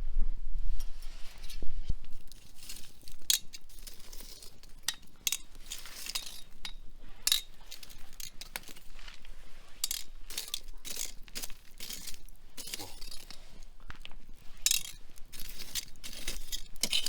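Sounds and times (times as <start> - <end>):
firewood crackling and popping: 1.4 - 17.0.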